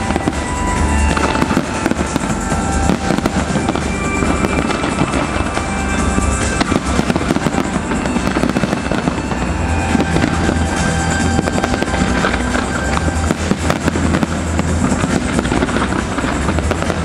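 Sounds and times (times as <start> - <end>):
firework shells bursting: 0.0 - 17.0
fireworks crackling: 0.0 - 17.0
music playing: 0.0 - 17.0.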